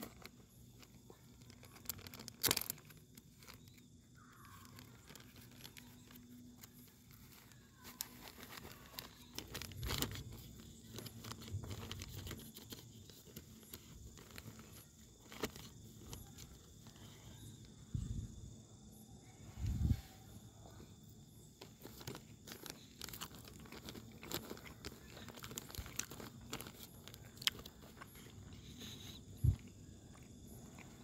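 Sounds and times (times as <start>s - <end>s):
plastic bag crinkling: 0.0s - 17.2s, 21.5s - 31.0s.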